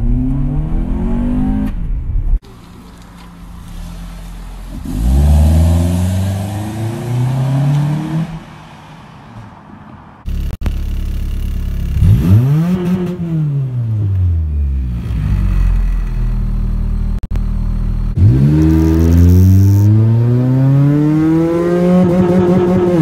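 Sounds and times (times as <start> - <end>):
car engine accelerating: 0.0 - 8.4, 10.3 - 23.0
car engine revving: 0.0 - 8.6, 10.2 - 23.0.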